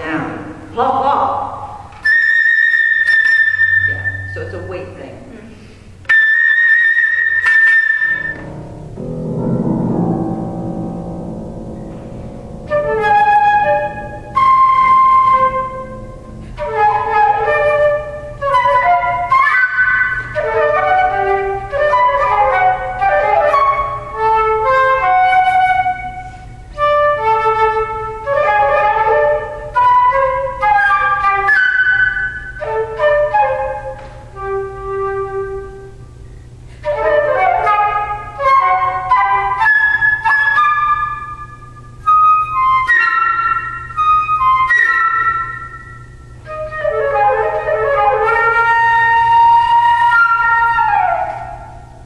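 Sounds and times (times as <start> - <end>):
piano accompaniment: 0.0 - 52.0
flute melody: 1.6 - 4.8, 6.0 - 52.0.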